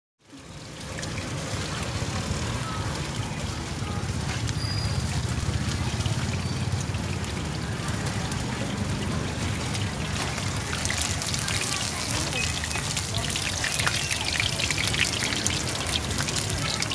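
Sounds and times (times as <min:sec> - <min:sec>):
low street rumble: 0:00.2 - 0:16.9.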